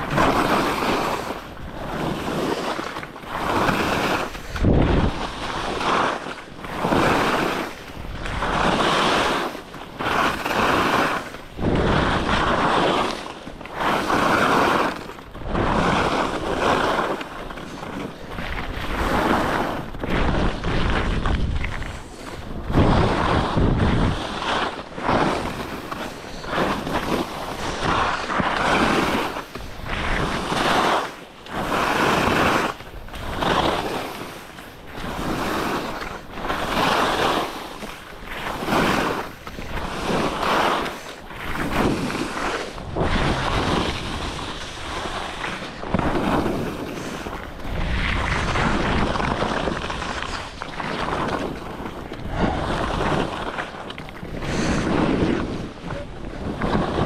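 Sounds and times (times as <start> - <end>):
skis scraping over snow: 0.0 - 57.0
wind on microphone: 0.0 - 57.0.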